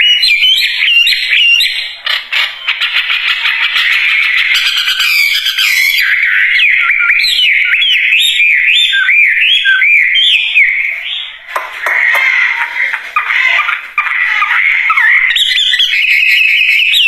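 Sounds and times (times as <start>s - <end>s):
songbird whistling: 0.0s - 17.0s.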